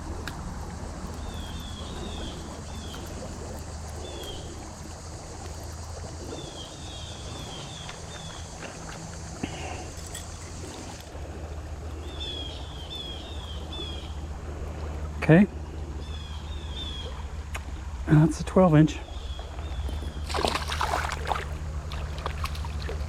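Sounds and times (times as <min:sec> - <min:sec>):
steady hiss and low hum: 0:00.0 - 0:23.0.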